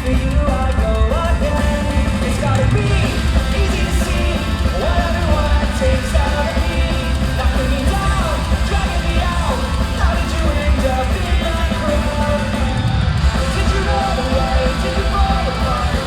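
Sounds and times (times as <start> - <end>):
live pop-punk band: 0.0 - 16.0
voices singing or yelling: 0.0 - 16.0.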